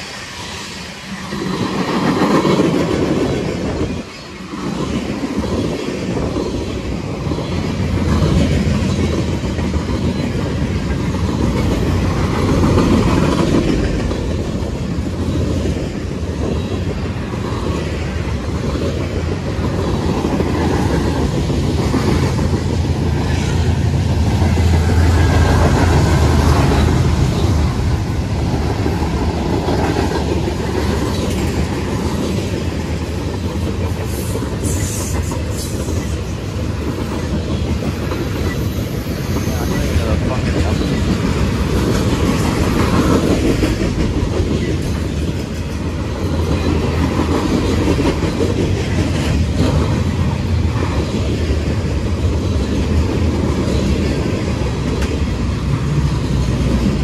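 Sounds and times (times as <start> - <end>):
freight train rumbling past: 0.0 - 57.0
wheels clacking over rail joints: 1.2 - 57.0.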